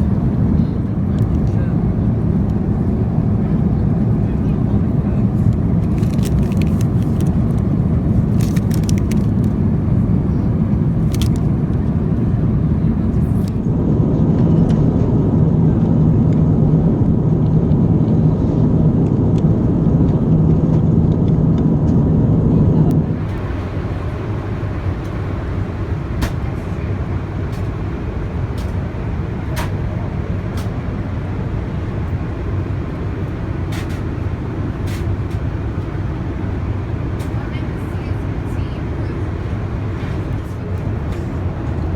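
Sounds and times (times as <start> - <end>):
airplane cabin rumble: 0.0 - 41.9.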